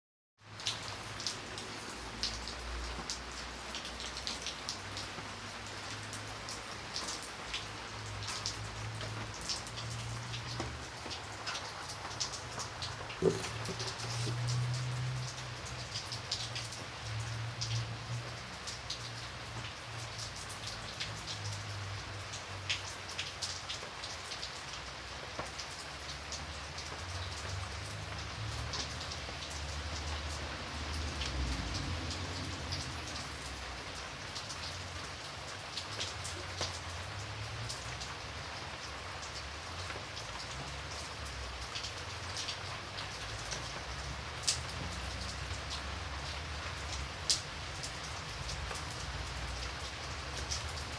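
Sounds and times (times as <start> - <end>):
raindrops ticking on a surface: 0.4 - 50.9
rain hiss: 0.5 - 50.9.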